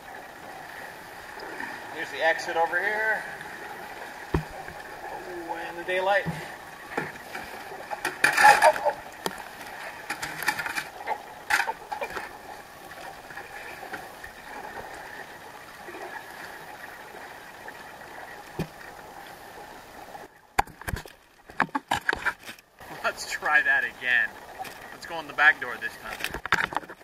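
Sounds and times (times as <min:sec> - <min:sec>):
paddle strokes splashing: 0:00.0 - 0:27.0
water washing around hull: 0:00.0 - 0:27.0.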